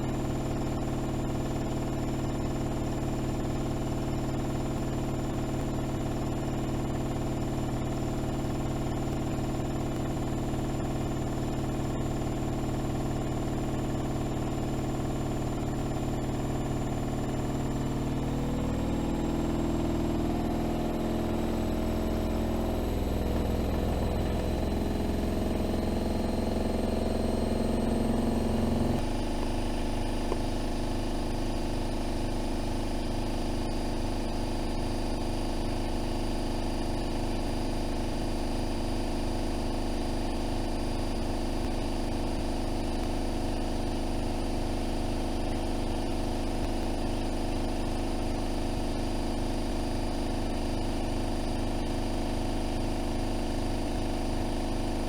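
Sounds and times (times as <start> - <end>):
washing machine spinning: 0.0 - 30.2, 30.9 - 55.0.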